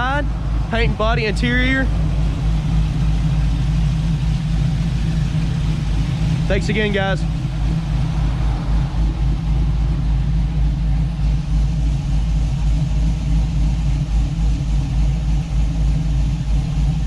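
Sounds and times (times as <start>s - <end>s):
v eight engine running: 0.0s - 17.0s.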